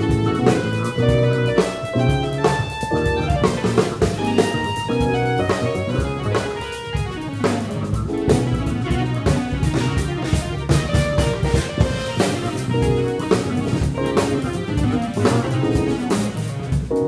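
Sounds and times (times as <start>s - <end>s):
drum kit beat: 0.0s - 17.0s
electric bass notes: 0.0s - 17.0s.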